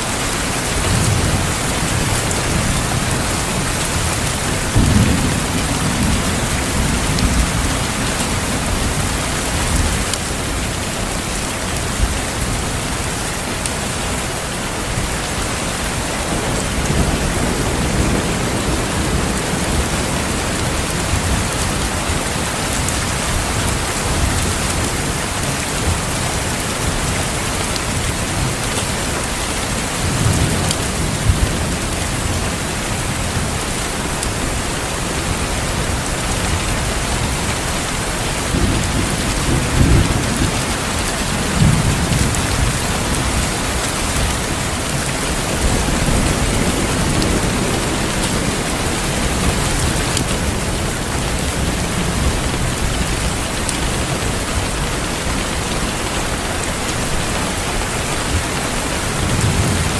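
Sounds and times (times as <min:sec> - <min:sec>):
heavy rain hissing: 0:00.0 - 0:59.9
thunder rumbling: 0:00.1 - 0:13.2, 0:14.5 - 0:59.9.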